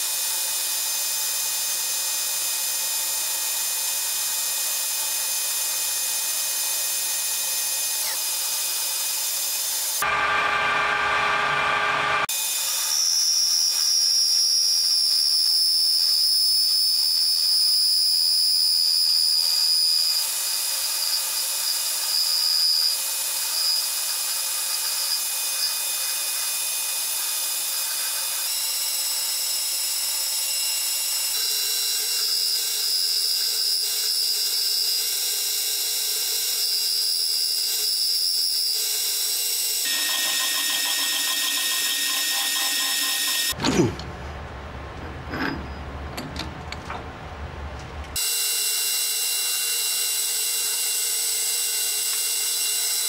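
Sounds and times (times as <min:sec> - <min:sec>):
metal lathe cutting steel: 0:00.0 - 0:43.6, 0:48.2 - 0:53.0.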